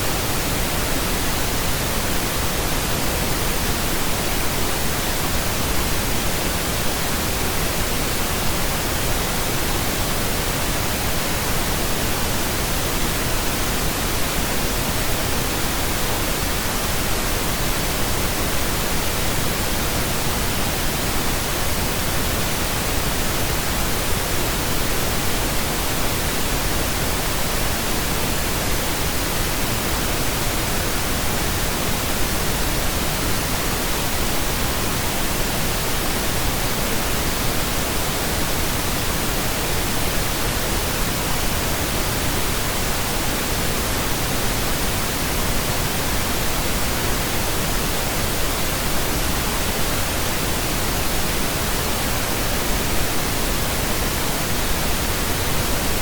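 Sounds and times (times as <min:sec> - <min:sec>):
steady pink noise hiss: 0:00.0 - 0:56.0.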